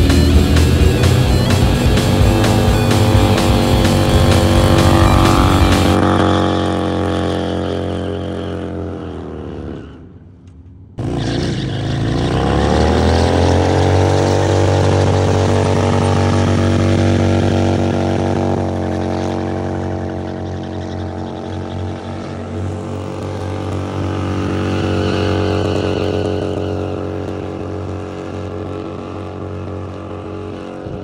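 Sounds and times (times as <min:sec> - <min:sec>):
motorcycle engine revving: 0:00.0 - 0:10.2, 0:10.8 - 0:31.0.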